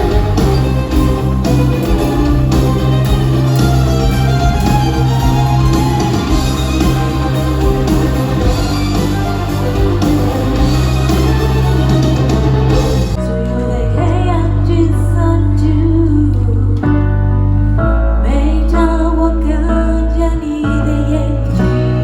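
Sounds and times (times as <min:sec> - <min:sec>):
stage musical with band: 0:00.0 - 0:22.0.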